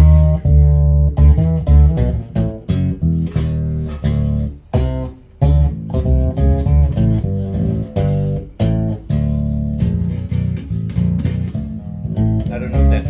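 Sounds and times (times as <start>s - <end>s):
electric bass plucked notes: 0.0s - 13.0s.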